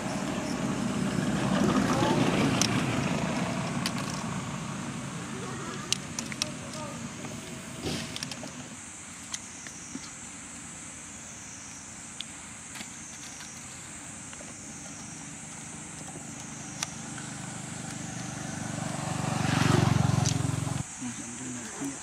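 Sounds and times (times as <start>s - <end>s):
vehicle engine pulsing hum: 0.0s - 9.9s, 13.0s - 22.0s.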